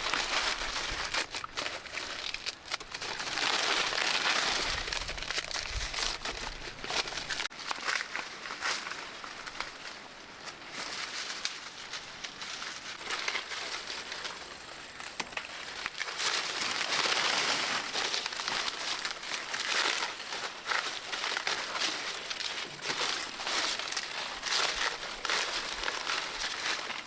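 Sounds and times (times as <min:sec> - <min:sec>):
dry material crinkling: 0:00.0 - 0:09.8, 0:10.5 - 0:27.0.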